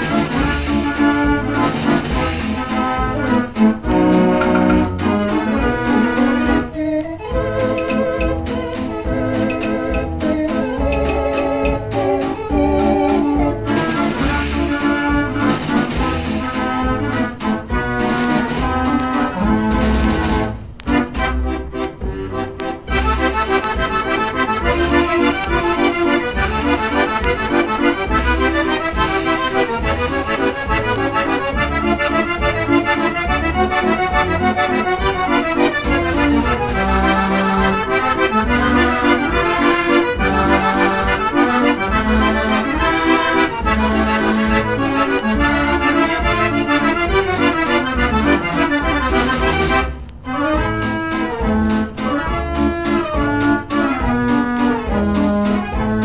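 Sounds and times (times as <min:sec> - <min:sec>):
dance organ playing a waltz: 0:00.0 - 0:56.0.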